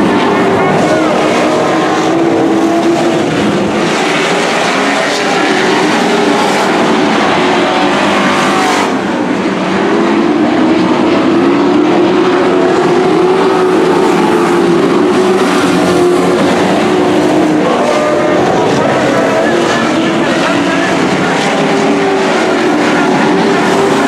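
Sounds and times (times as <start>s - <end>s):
race trucks engines revving: 0.0s - 24.0s.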